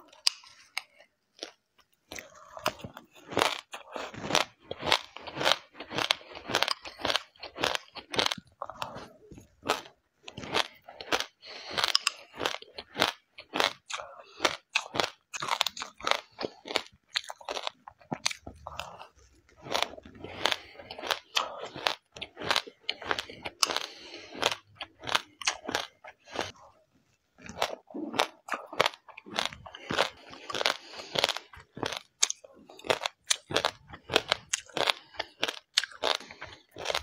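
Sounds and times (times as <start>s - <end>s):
seeds crunching while chewed: 0.0s - 37.0s.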